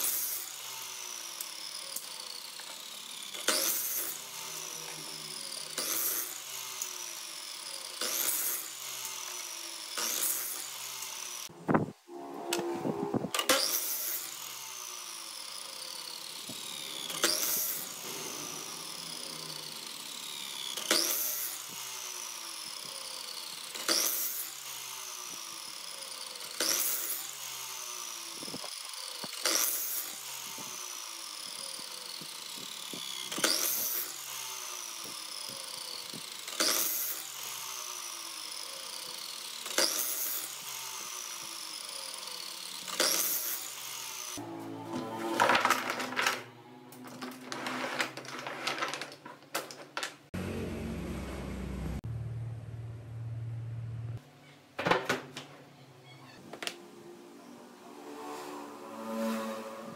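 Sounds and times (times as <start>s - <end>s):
saw blade whine spinning down: 0.0s - 48.2s, 50.4s - 54.2s, 57.1s - 59.9s
miter saw cutting wood: 0.0s - 49.0s, 50.3s - 52.0s, 57.7s - 59.9s.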